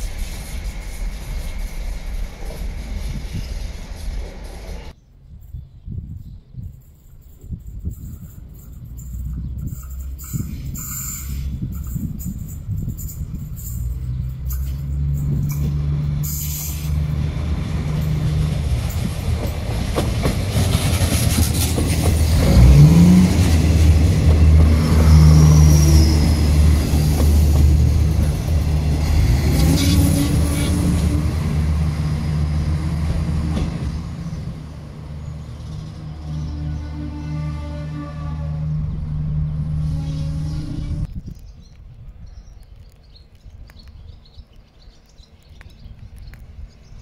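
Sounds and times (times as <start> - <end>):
passenger train hum: 0.0 - 41.2.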